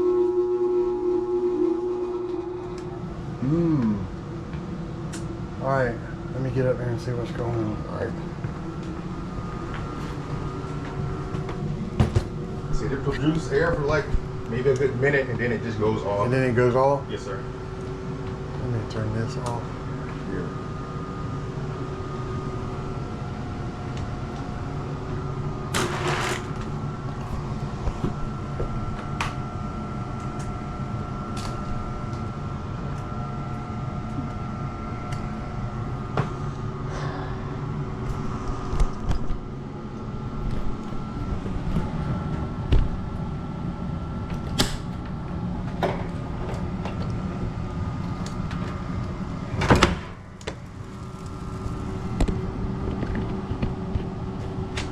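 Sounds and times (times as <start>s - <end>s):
mechanical hum of equipment: 0.0s - 54.9s.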